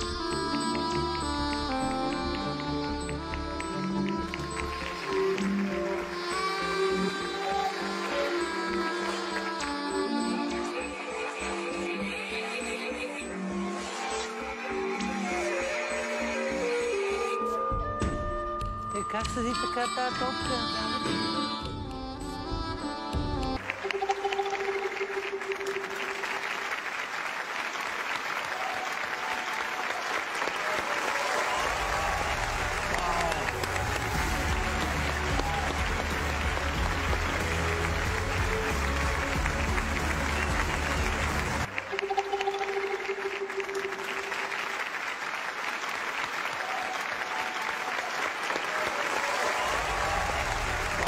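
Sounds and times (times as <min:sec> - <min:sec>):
studio audience applauding and cheering: 0:00.0 - 0:11.7, 0:13.6 - 0:17.4, 0:23.6 - 0:51.0
backing music: 0:00.0 - 0:27.4, 0:31.2 - 0:45.6, 0:48.7 - 0:51.0.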